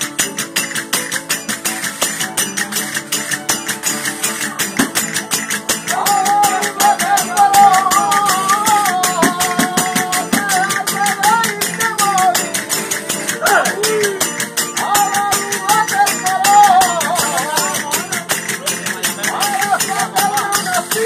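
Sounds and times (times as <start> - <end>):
strummed guitars: 0.0 - 21.0.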